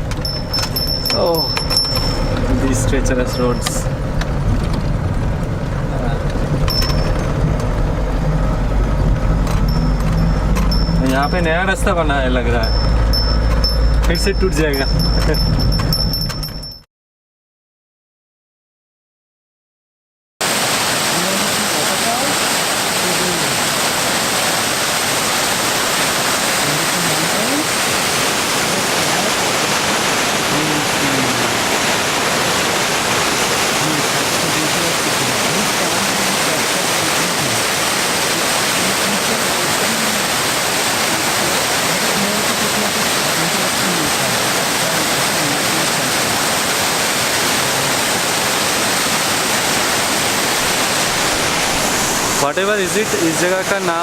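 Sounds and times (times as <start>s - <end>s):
waterfall roaring: 0.0s - 15.6s, 20.4s - 54.0s.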